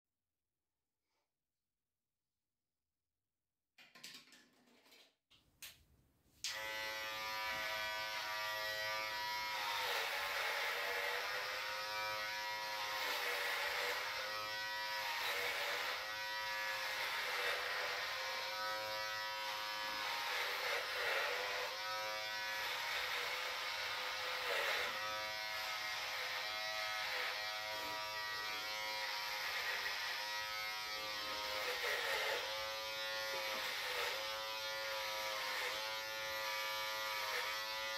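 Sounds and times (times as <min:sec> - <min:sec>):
beard trimmer buzzing: 0:06.5 - 0:37.9.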